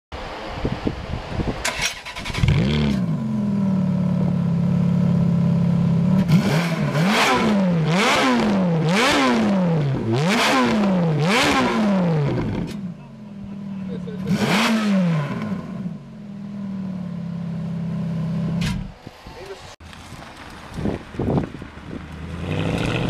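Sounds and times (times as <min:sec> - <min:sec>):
car engine starting and revving: 0:01.6 - 0:19.0, 0:20.1 - 0:23.0.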